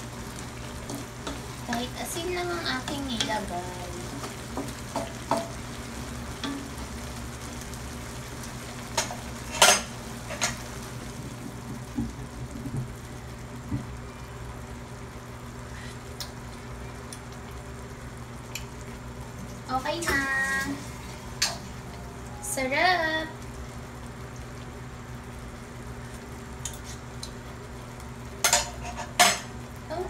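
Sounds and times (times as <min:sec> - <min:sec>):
greens sizzling in wok: 0:00.0 - 0:30.0.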